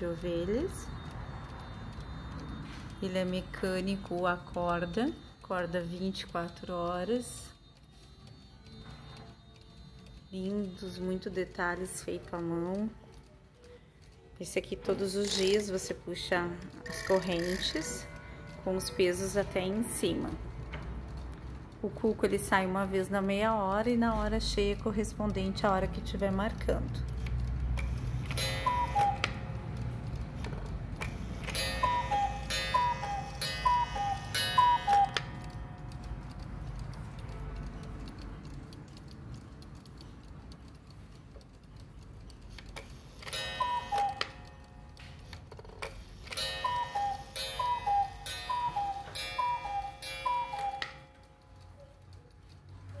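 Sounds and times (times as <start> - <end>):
cuckoo clock calling: 0.0 - 38.6, 41.3 - 53.0
clock mechanism clicks: 0.0 - 53.0.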